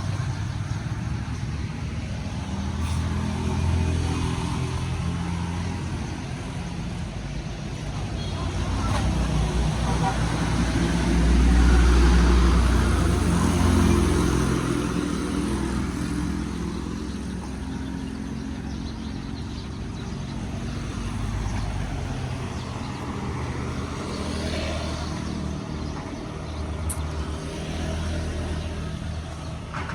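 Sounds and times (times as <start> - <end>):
street noise: 0.0 - 29.9
vehicle engine humming: 0.0 - 29.9.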